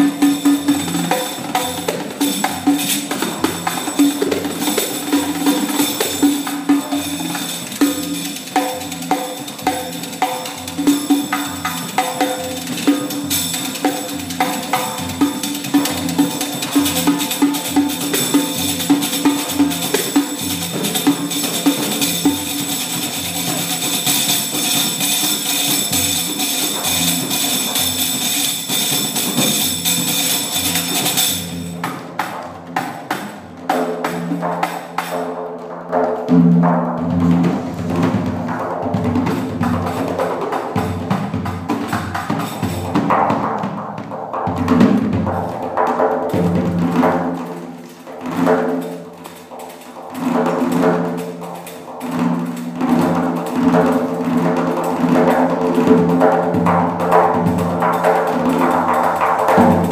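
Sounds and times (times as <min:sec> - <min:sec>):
frame drum strokes: 0:00.0 - 0:59.9.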